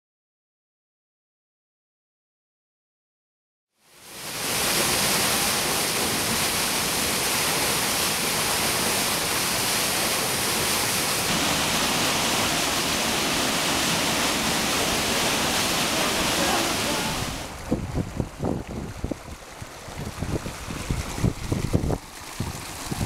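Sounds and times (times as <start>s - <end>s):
waterfall rushing: 4.0s - 23.0s.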